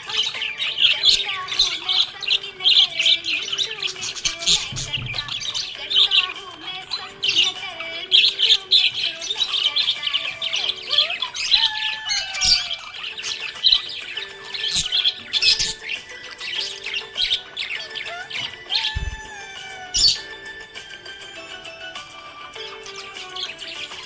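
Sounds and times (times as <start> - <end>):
budgerigar chirping: 0.0 - 24.0.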